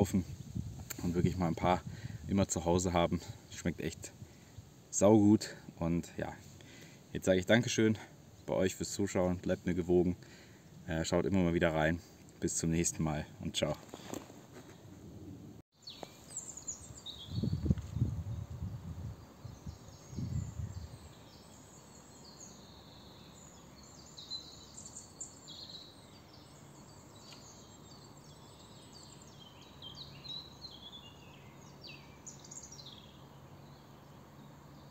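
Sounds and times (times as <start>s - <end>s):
songbirds chirping and trilling: 0.0s - 14.9s, 15.8s - 34.9s.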